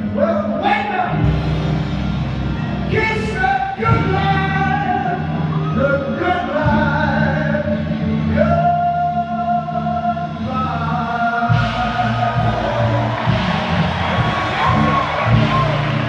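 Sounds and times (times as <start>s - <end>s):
band playing a ballad: 0.0s - 16.0s
person singing live: 0.0s - 16.0s.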